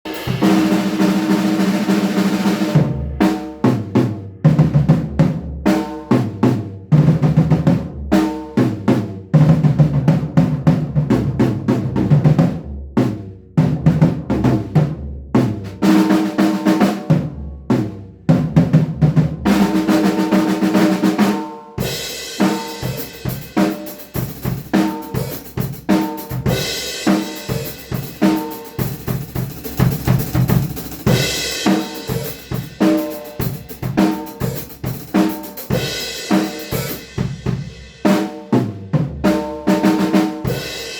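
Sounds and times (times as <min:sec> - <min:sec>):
drum kit playing: 0:00.0 - 0:40.9.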